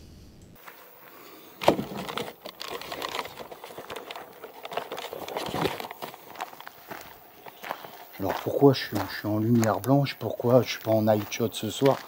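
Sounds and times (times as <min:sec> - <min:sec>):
footsteps: 0:00.6 - 0:12.0.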